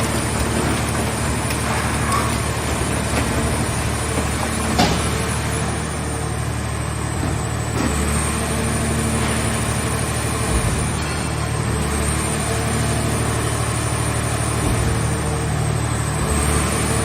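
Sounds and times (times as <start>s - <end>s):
baler engine running: 0.0s - 17.0s.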